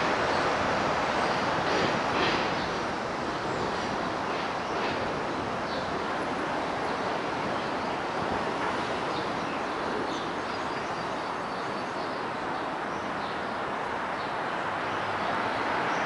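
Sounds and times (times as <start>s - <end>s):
elevated train rumble: 0.0s - 16.0s.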